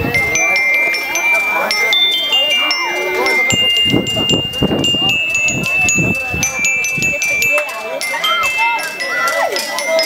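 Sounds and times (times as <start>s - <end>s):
high tone changing pitch: 0.0s - 9.2s
crowd chattering: 0.0s - 10.0s.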